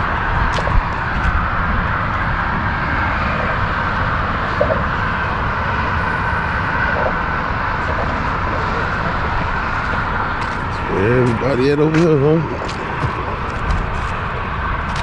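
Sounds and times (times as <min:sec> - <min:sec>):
low rumble: 0:00.0 - 0:15.0
outdoor rushing noise: 0:00.0 - 0:15.0.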